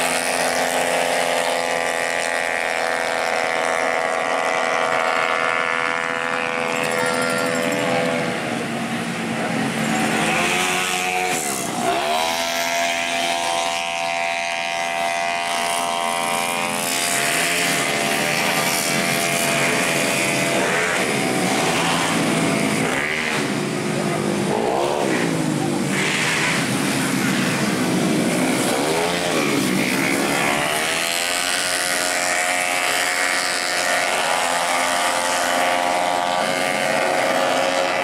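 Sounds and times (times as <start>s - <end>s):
scooter engines racing past: 0.0s - 38.0s.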